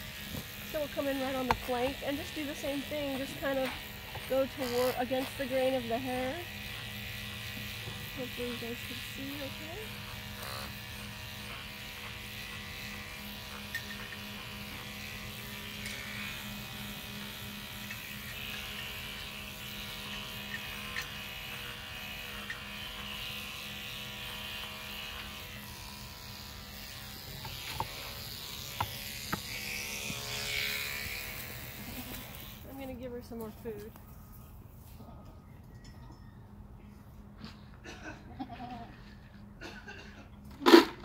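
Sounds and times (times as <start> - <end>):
electric clippers buzzing: 0.0 - 34.5, 40.3 - 41.0.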